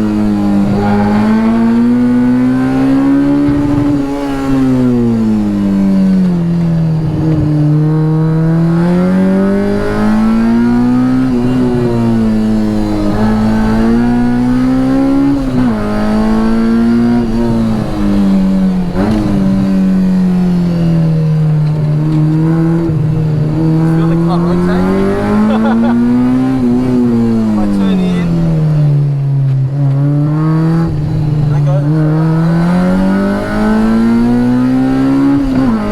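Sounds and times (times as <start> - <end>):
car engine revving on track: 0.0 - 35.9.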